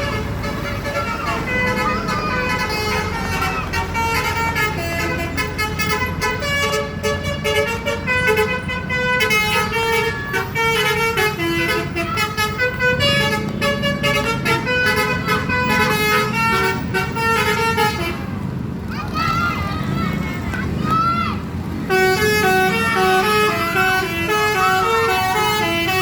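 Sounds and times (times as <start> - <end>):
musical bus horn melody: 0.0 - 18.5, 21.9 - 26.0.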